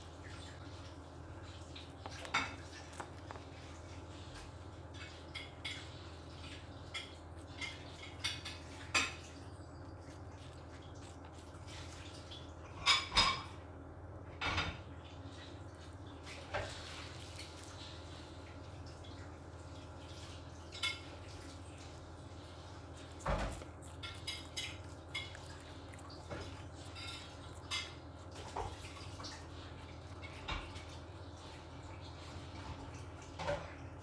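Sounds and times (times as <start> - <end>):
faint steady hum: 0.0 - 34.0
rabbit crunching vegetables: 0.0 - 34.0.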